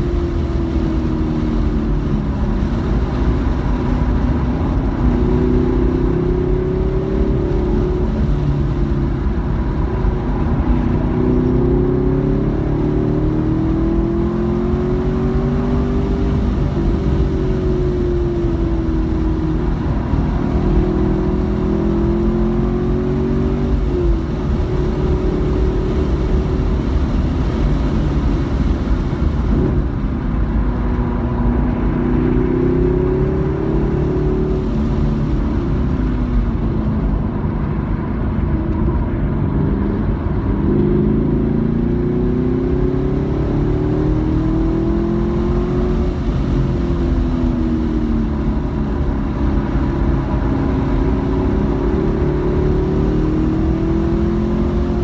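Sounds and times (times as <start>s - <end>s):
car engine revving through gears: 0.0s - 55.0s
road and wind noise: 0.0s - 55.0s.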